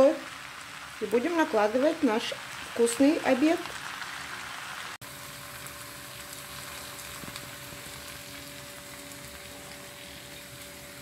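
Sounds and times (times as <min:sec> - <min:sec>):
noodles sizzling in a frying pan: 0:00.0 - 0:11.0.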